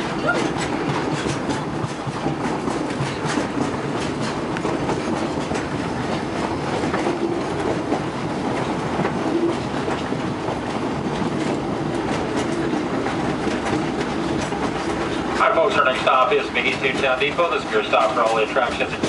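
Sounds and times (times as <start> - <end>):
clacks over rail joints: 0.0 - 19.0
train wheels rumbling on rails: 0.0 - 19.0.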